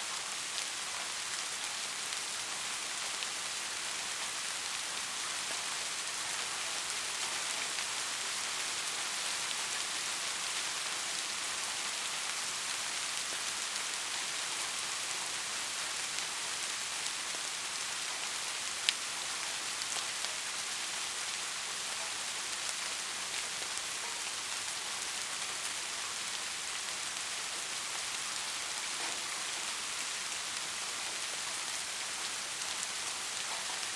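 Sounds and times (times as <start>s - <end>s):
heavy rain on a roof: 0.0s - 33.9s.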